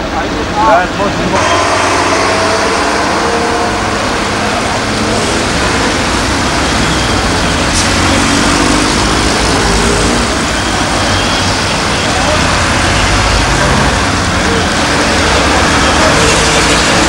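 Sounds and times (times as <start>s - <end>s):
heavy vehicle engine rumble: 0.0s - 17.0s
fire hose jet splashing: 1.3s - 17.0s.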